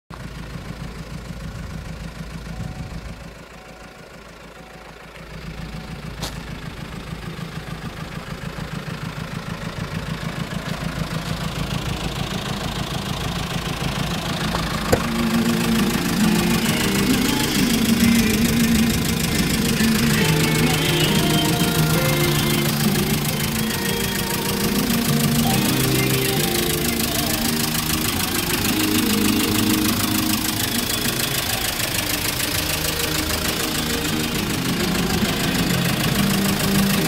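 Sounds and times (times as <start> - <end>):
truck engine idling: 0.1 - 37.0.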